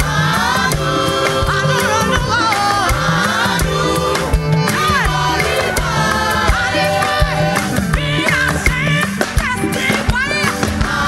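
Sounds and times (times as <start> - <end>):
drum hits: 0.0 - 11.0
gospel choir singing: 0.0 - 11.0
walking bass line: 0.0 - 11.0.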